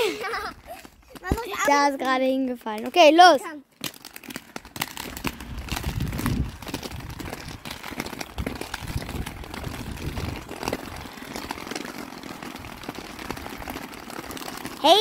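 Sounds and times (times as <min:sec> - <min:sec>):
skate wheels rolling on pavement: 0:00.0 - 0:15.0.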